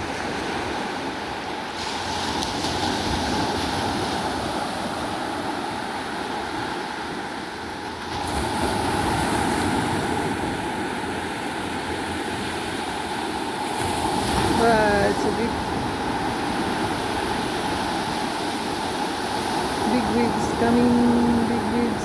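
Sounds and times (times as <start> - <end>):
sea waves washing onto shore: 0.0 - 22.0.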